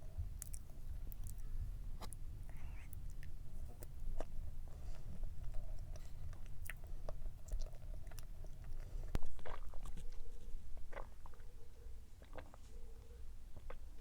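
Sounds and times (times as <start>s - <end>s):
person chewing cake: 0.0s - 11.6s, 12.2s - 12.7s, 13.5s - 14.0s.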